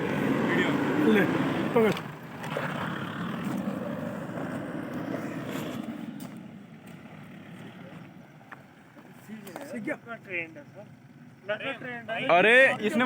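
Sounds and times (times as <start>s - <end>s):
pickup truck engine and tyres rumbling: 0.0s - 13.0s.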